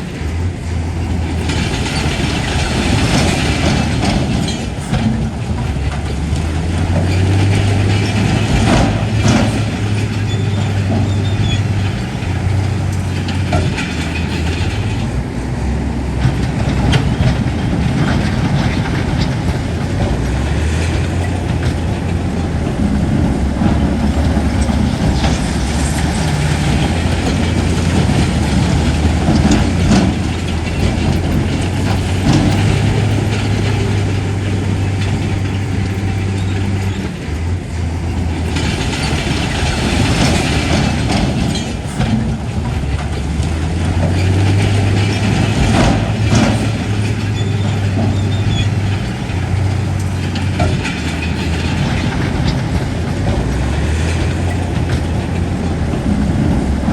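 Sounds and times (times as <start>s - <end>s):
bulldozer diesel engine running: 0.0s - 56.9s
steel tracks clattering: 0.0s - 56.9s.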